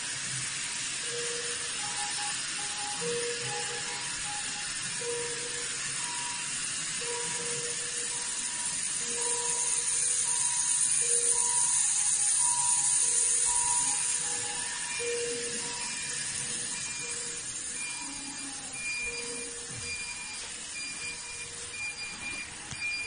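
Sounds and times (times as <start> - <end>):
steady hiss: 0.0 - 23.0
monitor alarm beeps: 1.0 - 23.0.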